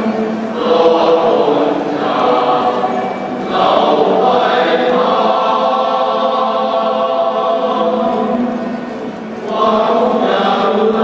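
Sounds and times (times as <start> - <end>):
male choir singing: 0.0 - 11.0.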